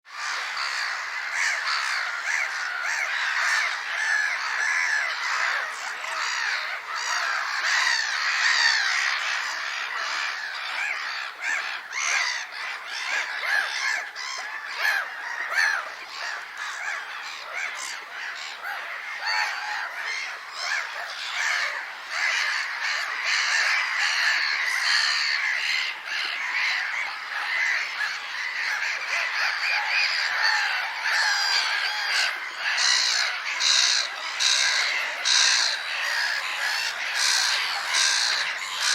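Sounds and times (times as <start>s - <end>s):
gulls calling: 0.1s - 38.9s.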